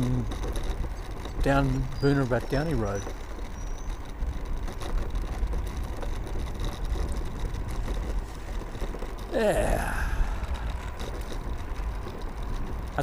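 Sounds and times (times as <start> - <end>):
tyre and road noise: 0.0 - 13.0
wind buffeting microphone: 0.0 - 13.0.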